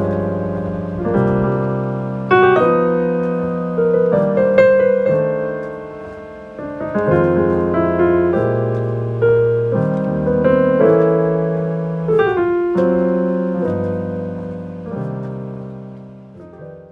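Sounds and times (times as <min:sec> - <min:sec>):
slow piano music: 0:00.0 - 0:16.9.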